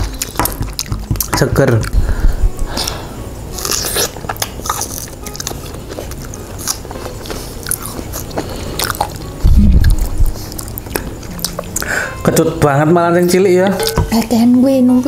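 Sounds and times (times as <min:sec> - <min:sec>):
people chewing strawberries: 0:00.0 - 0:12.5.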